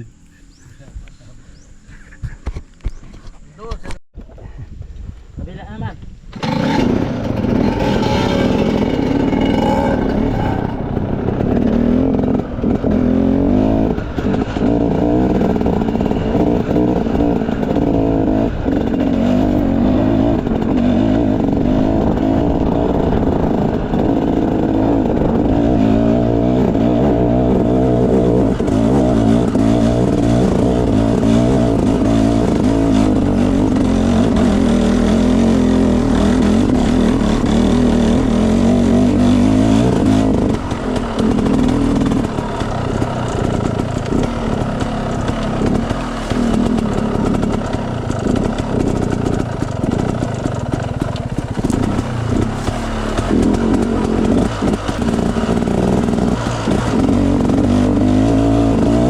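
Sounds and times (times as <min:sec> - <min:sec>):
dirt bike engine revving: 0:06.3 - 0:59.0.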